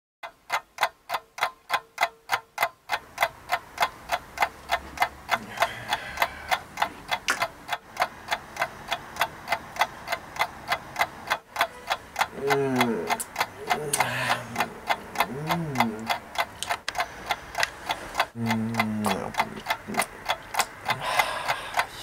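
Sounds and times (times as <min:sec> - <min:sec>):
clock ticking: 0:00.2 - 0:22.0.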